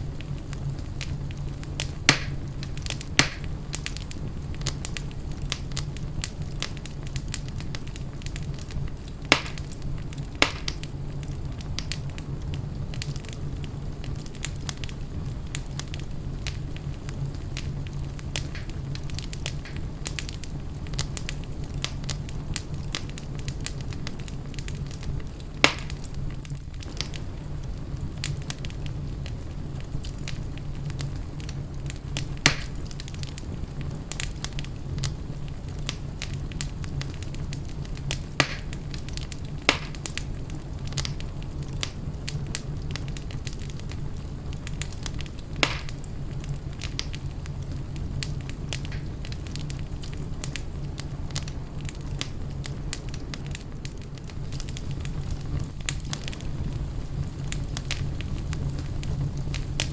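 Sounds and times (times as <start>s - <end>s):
wood fire crackling: 0.0s - 59.9s
sharp pops from burning logs: 0.2s - 59.9s.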